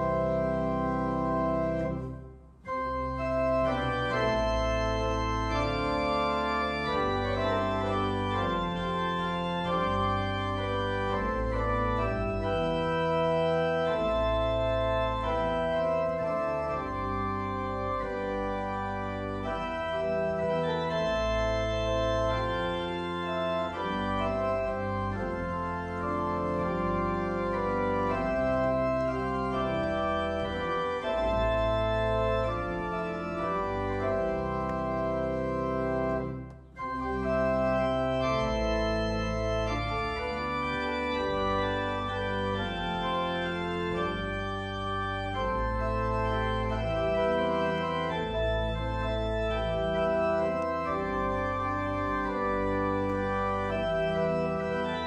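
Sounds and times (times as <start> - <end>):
organ playing a hymn: 0.0 - 55.0.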